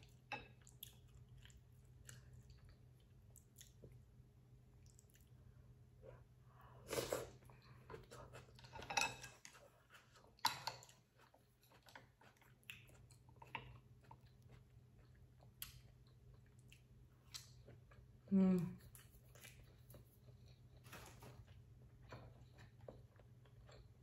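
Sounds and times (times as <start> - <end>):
person chewing and eating: 0.0 - 24.0.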